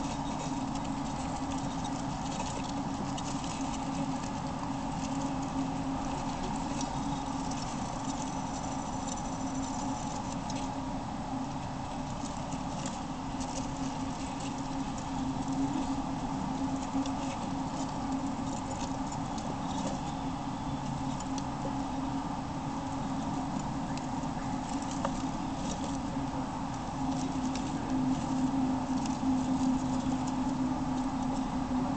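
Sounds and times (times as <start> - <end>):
hamsters rustling in bedding: 0.0 - 10.8, 11.5 - 31.9
steady low hum: 0.0 - 31.9.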